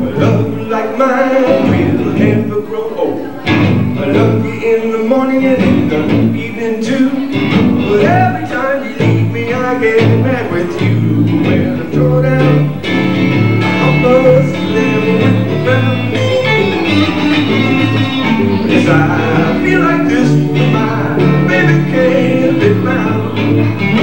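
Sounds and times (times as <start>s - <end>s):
blues band playing: 0.0s - 24.0s
electric guitar: 0.0s - 24.0s
person singing: 0.0s - 24.0s.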